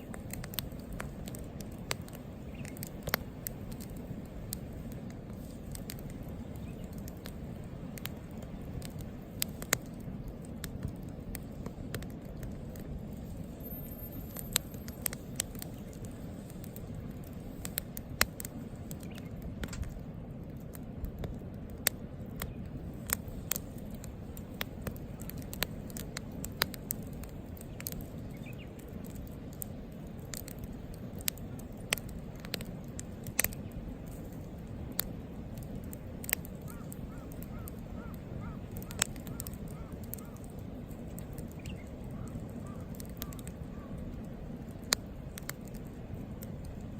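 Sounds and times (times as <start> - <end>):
campfire crackling and popping: 0.0 - 46.9
flames rushing: 0.0 - 46.9.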